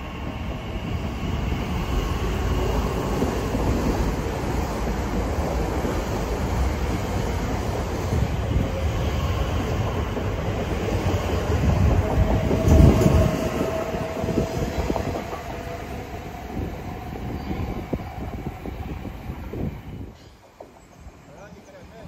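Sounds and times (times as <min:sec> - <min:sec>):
steady train whine: 0:00.0 - 0:22.0
train wheels rumbling on rails: 0:00.0 - 0:22.0.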